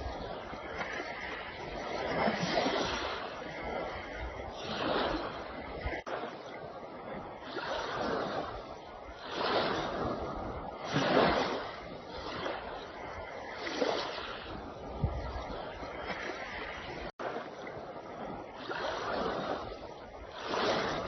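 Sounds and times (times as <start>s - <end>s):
sea waves washing in: 0.0s - 21.0s.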